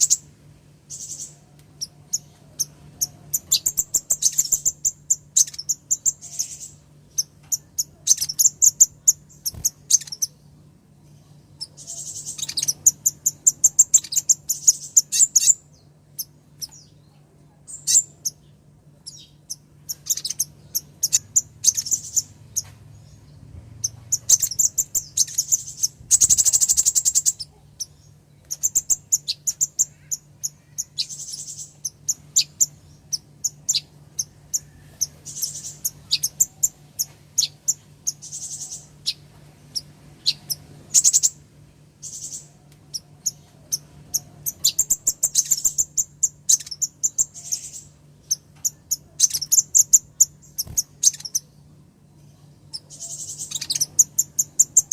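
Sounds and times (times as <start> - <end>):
bird chirping and trilling: 0.0 - 0.3, 0.9 - 41.4, 42.0 - 51.6, 52.3 - 54.9
faint low hum: 0.0 - 54.9.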